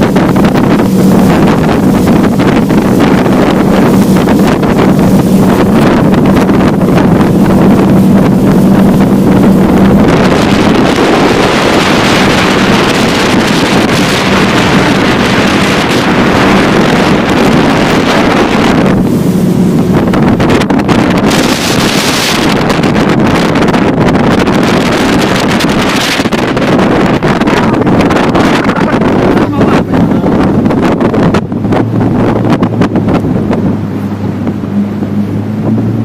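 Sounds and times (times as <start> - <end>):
motorboat engine humming: 0.0 - 36.0
wind noise on microphone: 0.0 - 36.0.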